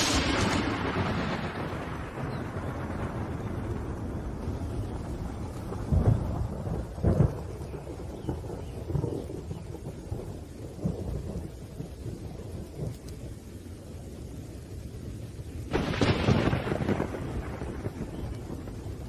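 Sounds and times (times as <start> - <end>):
sharp thunderclap: 0.0 - 13.4, 15.7 - 19.0
rain: 0.0 - 19.0
rolling thunder: 0.0 - 19.0.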